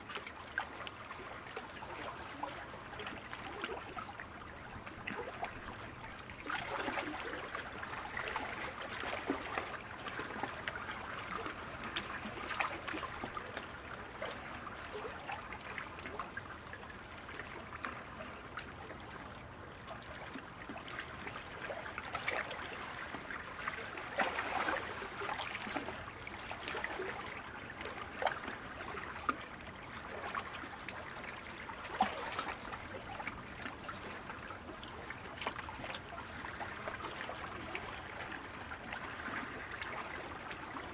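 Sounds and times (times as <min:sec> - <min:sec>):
rushing water with splashes: 0:00.0 - 0:40.9.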